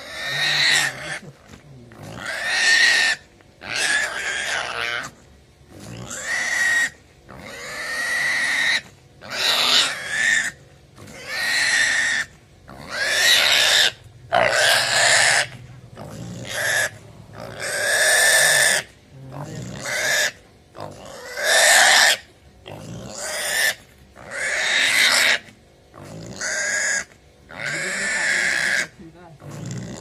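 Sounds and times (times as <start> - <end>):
piglet squealing: 0.0 - 1.3, 2.1 - 5.1, 5.9 - 15.6, 16.4 - 16.9, 17.5 - 18.9, 19.6 - 22.3, 23.0 - 25.5, 26.2 - 30.0.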